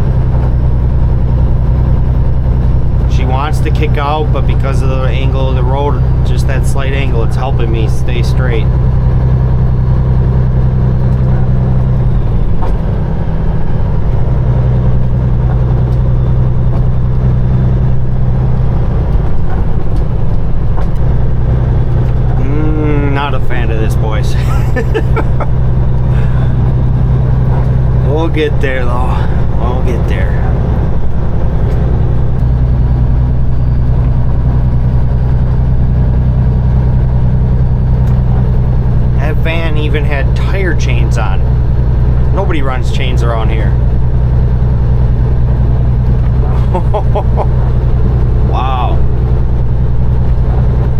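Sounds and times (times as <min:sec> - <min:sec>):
diesel truck engine pulling: 0:00.0 - 0:50.9
tires spinning: 0:00.0 - 0:50.9.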